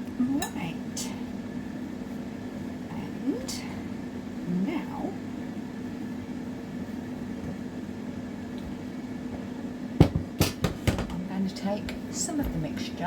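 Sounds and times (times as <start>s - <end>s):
air fryer humming: 0.0s - 13.0s.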